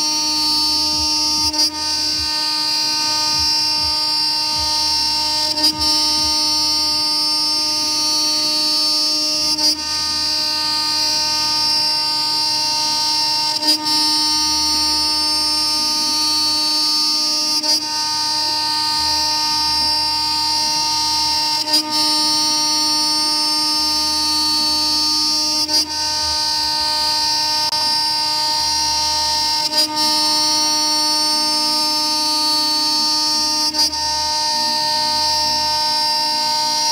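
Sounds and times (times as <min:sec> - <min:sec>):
low hum: 0:00.0 - 0:36.9
router spindle milling aluminium whine: 0:00.0 - 0:36.9.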